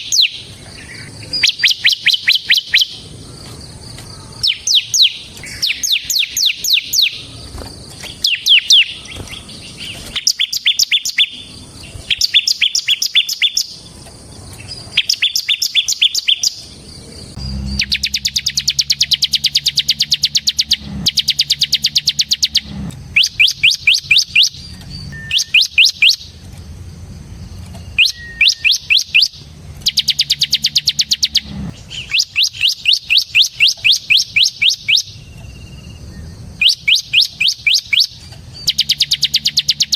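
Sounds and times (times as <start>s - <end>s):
bird singing fast sharp notes: 0.0s - 13.8s, 14.6s - 26.4s, 27.9s - 39.9s.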